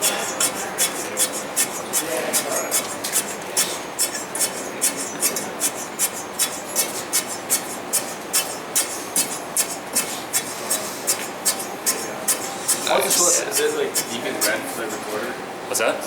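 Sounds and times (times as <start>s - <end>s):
tool rasping in gritty material: 0.0s - 15.0s.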